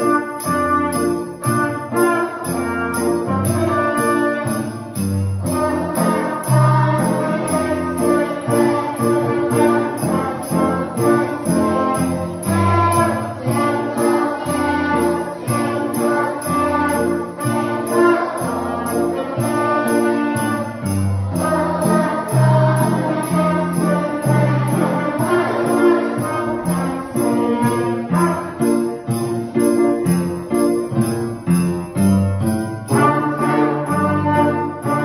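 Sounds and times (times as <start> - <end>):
children's brass group playing: 0.0 - 35.0
piano accompaniment: 0.0 - 35.0
sleigh bells jingling: 0.0 - 35.0.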